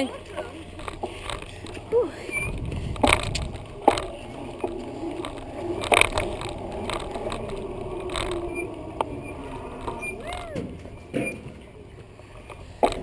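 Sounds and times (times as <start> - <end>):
bike rattling and knocking: 0.0 - 13.0
tyre and wind rumble: 0.0 - 13.0.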